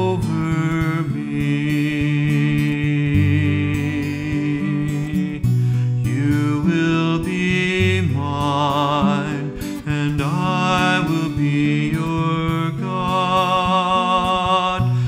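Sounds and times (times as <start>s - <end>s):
acoustic guitar: 0.0s - 15.0s
man singing with vibrato: 0.0s - 15.0s.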